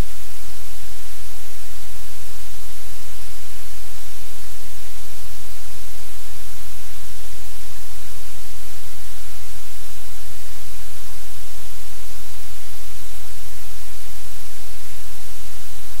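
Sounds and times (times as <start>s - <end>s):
static hiss: 0.0s - 16.0s.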